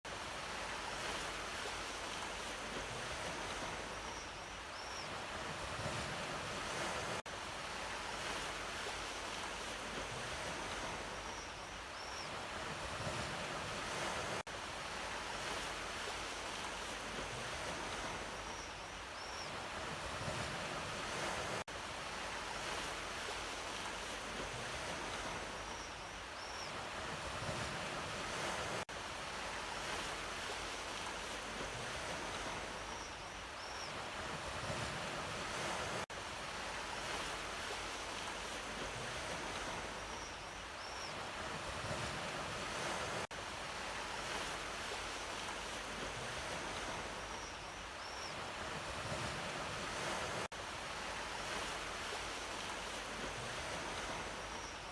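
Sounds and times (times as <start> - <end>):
sea waves washing onto shore: 0.0 - 4.2, 5.1 - 18.7, 19.5 - 33.1, 33.7 - 54.9.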